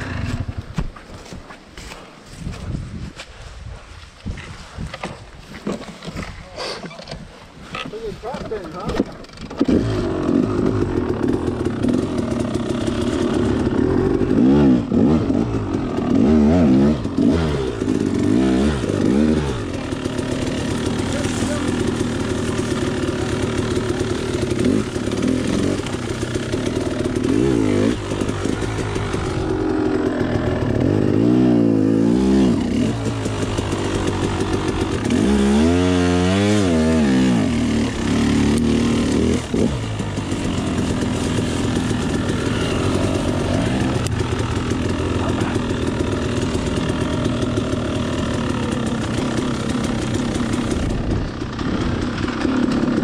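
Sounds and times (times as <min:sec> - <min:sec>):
dirt bike engine revving: 0:00.0 - 0:00.7, 0:08.2 - 0:53.0.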